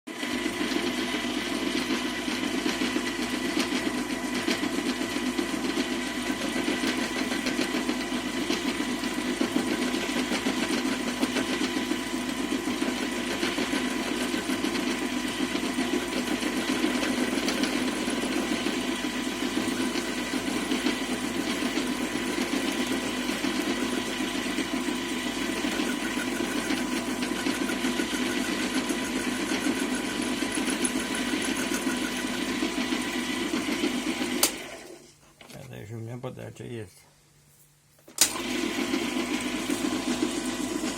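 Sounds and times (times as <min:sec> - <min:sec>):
lathe whirring: 0:00.2 - 0:35.0, 0:38.2 - 0:40.9.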